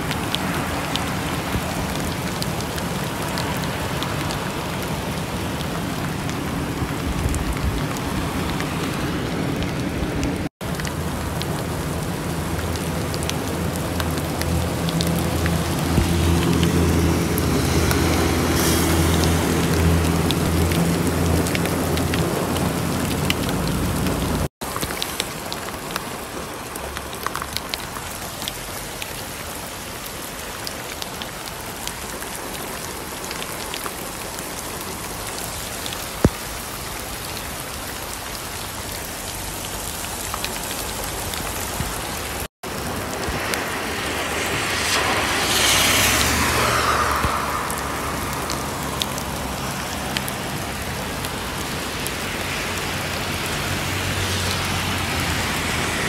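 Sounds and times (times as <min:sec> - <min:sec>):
heavy rain on wet road: 0:00.0 - 0:56.0.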